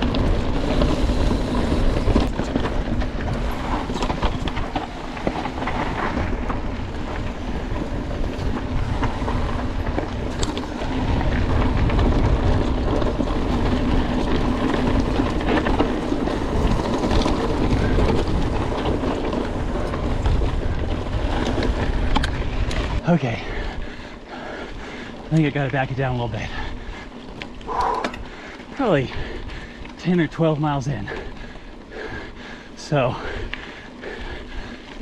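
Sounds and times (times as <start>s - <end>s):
bike rattling: 0.0s - 35.0s
bike tyres rumbling on dirt: 0.0s - 35.0s
wind buffeting microphone: 0.0s - 35.0s.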